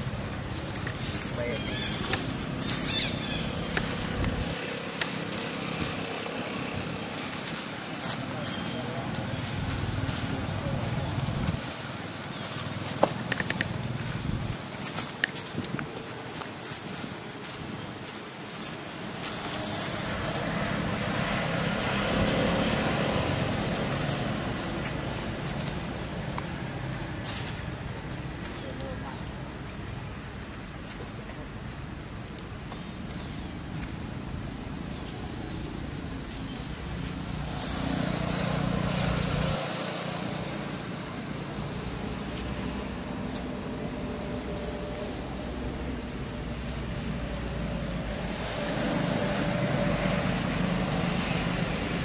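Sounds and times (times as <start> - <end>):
motor vehicle passing: 0.0 - 15.0, 18.3 - 30.1, 32.8 - 52.0.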